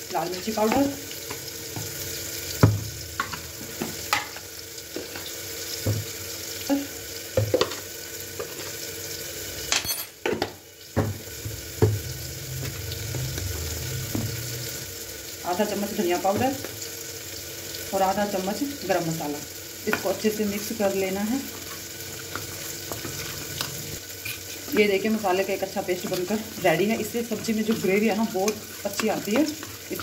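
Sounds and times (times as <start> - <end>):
tomatoes sizzling in cooker: 0.0 - 30.0.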